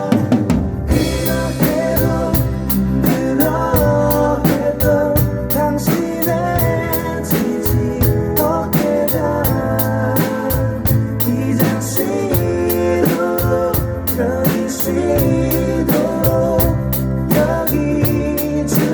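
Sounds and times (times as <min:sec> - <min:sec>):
drum kit playing: 0:00.0 - 0:18.9
worship song with singing: 0:00.0 - 0:18.9.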